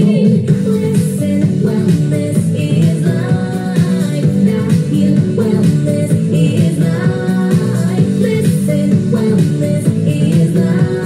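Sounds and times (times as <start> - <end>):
pop dance song with singing: 0.0 - 11.0.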